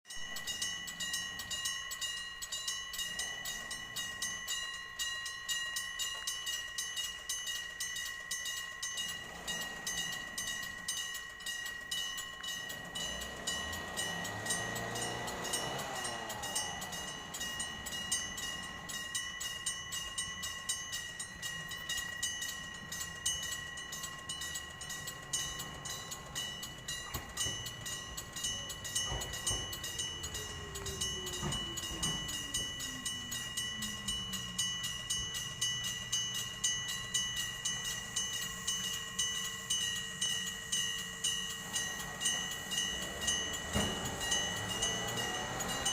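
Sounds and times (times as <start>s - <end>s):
level crossing bell ringing: 0.1s - 45.9s
train passing: 0.1s - 45.9s.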